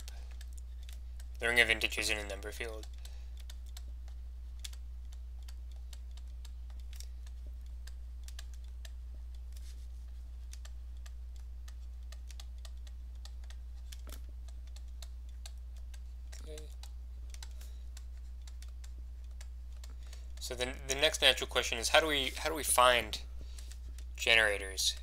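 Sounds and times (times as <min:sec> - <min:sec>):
steady low hum: 0:00.0 - 0:25.0
stylus clicking on tablet: 0:00.0 - 0:25.0.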